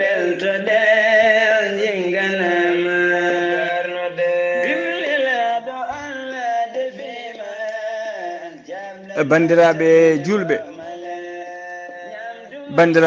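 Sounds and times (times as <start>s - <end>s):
person chanting melodically: 0.0s - 13.0s.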